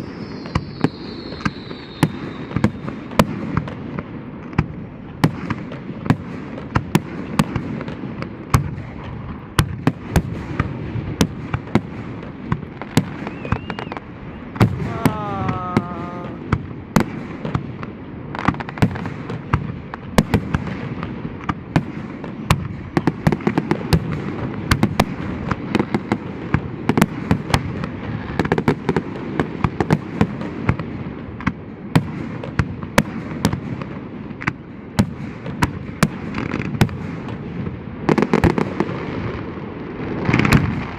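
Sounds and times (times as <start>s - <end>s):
fireworks bangs and cracks: 0.0s - 40.9s.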